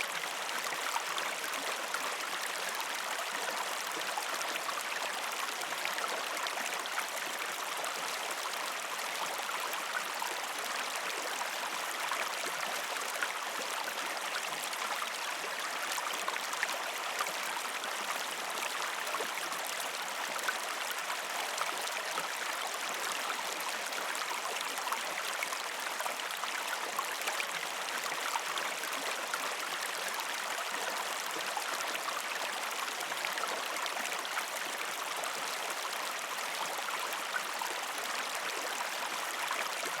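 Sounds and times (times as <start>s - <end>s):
stream flowing over rocks: 0.0s - 40.0s.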